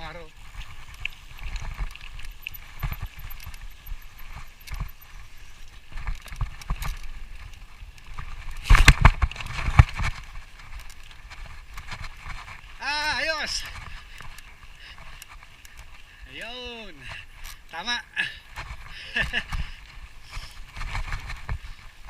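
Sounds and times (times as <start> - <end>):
bike rattling on rough trail: 0.0 - 22.0.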